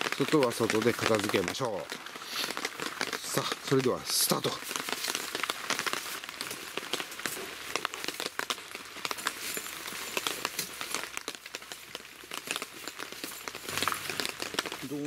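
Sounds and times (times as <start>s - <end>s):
bag rustling: 0.0s - 15.0s
rain on tent fabric: 0.0s - 15.0s.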